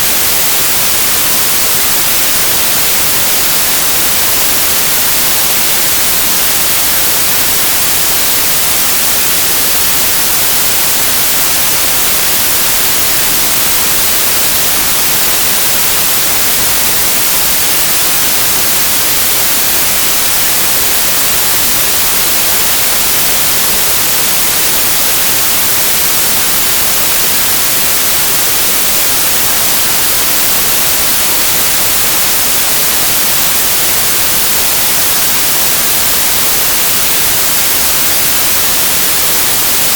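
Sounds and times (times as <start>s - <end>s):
loud steady static hiss: 0.0s - 39.9s.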